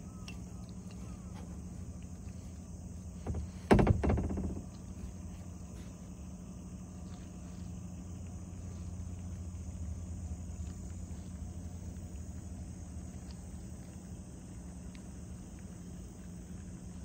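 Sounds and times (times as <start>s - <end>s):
insects chirring: 0.0s - 17.0s
steady low hum: 0.0s - 17.0s.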